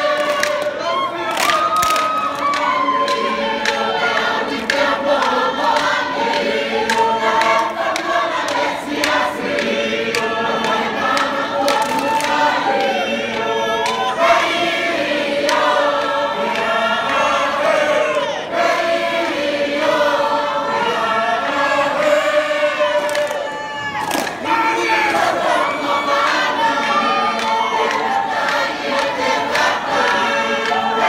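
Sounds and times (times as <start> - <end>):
hand claps: 0.0 - 17.8, 21.4 - 25.5, 26.2 - 31.0
group singing in parts: 0.0 - 31.0.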